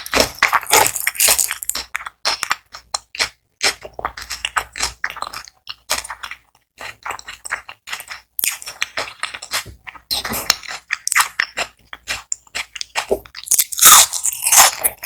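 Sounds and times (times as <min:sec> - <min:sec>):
chewing crispy food: 0:00.0 - 0:15.0.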